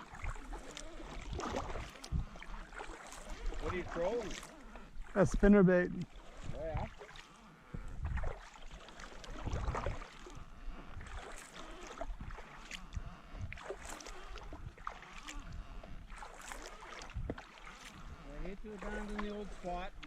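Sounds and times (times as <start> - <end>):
paddle splashes: 0.0 - 20.0.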